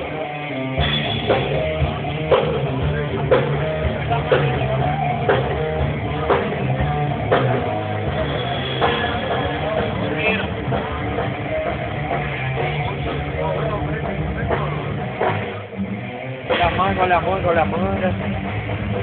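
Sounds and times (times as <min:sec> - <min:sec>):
bass guitar notes: 0:00.0 - 0:19.0
electric guitar: 0:00.0 - 0:19.0
drum kit hits: 0:00.8 - 0:15.6, 0:16.4 - 0:19.0.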